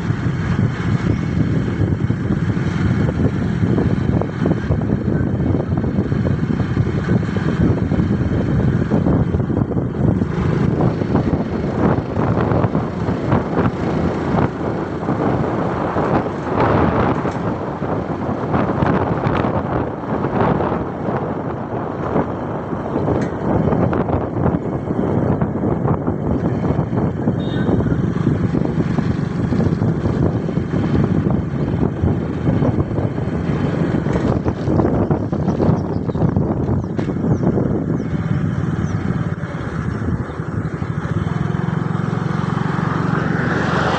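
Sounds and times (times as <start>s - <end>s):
motorcycle engine running: 0.0s - 43.9s
wind rumble on microphone: 0.0s - 43.9s.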